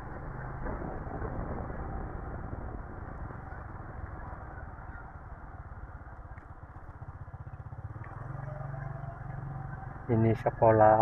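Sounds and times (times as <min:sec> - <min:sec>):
motorcycle engine throbbing: 0:00.0 - 0:11.0
road and wind noise: 0:00.0 - 0:11.0.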